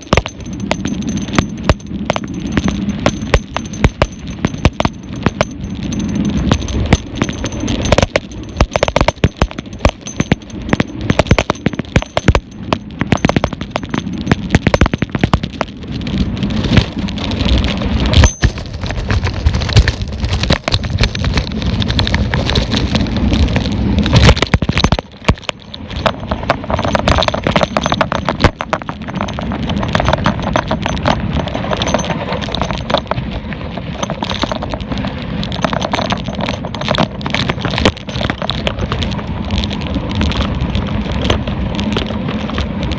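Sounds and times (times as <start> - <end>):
bike rattling over rough ground: 0.0 - 42.9.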